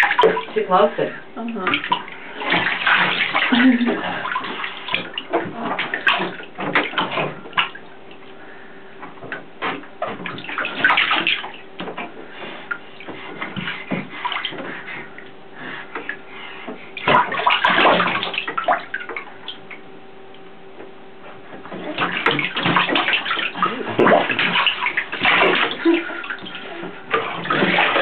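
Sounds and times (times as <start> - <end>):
bathwater splashing: 0.0 - 8.6, 9.2 - 19.9, 21.5 - 28.0.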